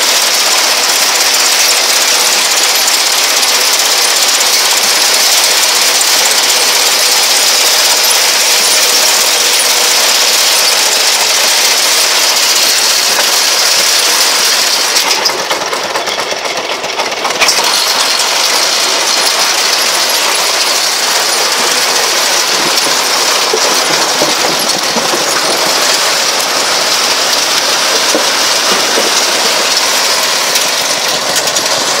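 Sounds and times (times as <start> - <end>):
harvester conveyors clattering: 0.0 - 32.0.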